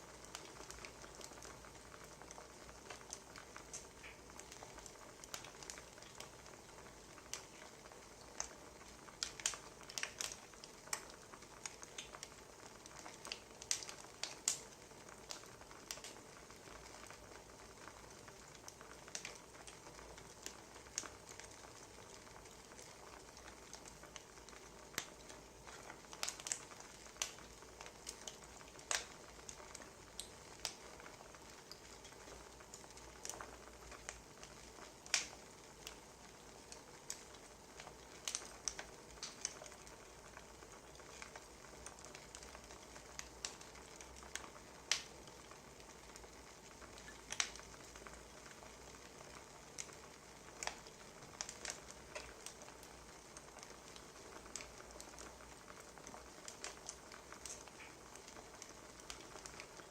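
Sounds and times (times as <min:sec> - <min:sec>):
faint steady hiss: 0:00.0 - 0:59.9
wood fire crackling: 0:00.0 - 0:59.9.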